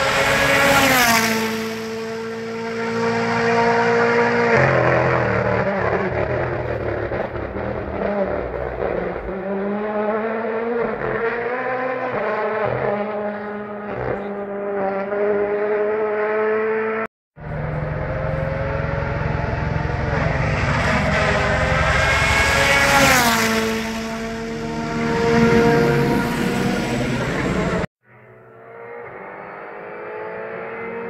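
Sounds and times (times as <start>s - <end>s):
rally car engines at full throttle: 0.0s - 31.0s.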